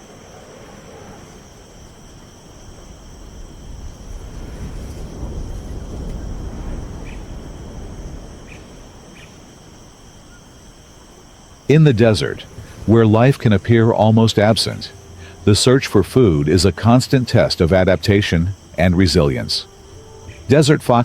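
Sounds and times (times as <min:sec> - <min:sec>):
faint high-pitched tones: 0:00.0 - 0:21.0
low rumble: 0:01.4 - 0:21.0.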